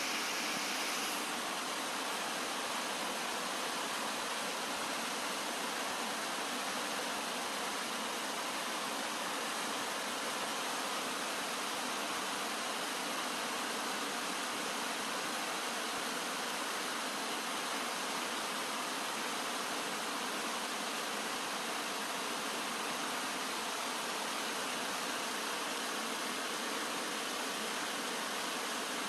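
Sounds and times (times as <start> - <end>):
stream flowing over rocks: 0.0 - 29.0.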